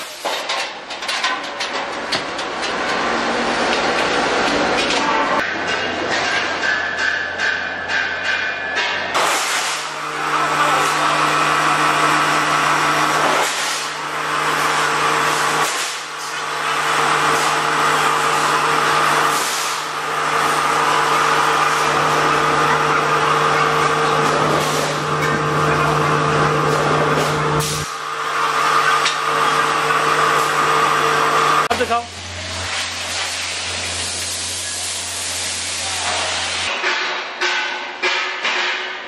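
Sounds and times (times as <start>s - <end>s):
workshop machinery running: 0.0s - 39.0s.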